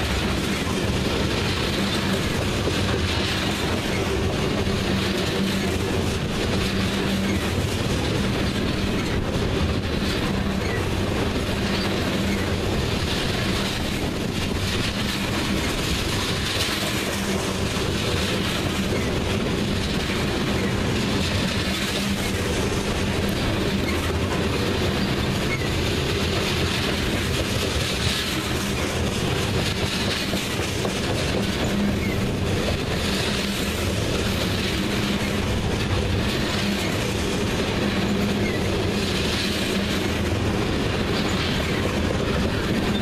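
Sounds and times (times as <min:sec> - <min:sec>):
clickety-clack of wheels: 0:00.0 - 0:43.0
freight train wheels rumbling: 0:00.0 - 0:43.0.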